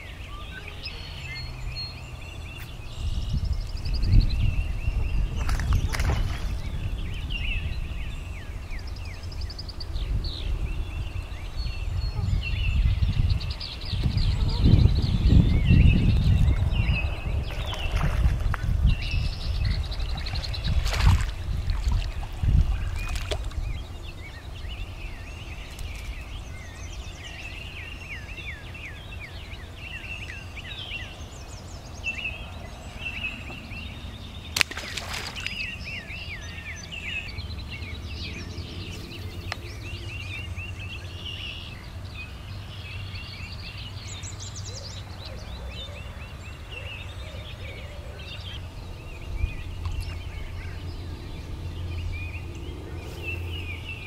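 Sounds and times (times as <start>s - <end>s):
birds chirping and singing: 0.0s - 54.0s
wind rumble on microphone: 0.0s - 54.0s.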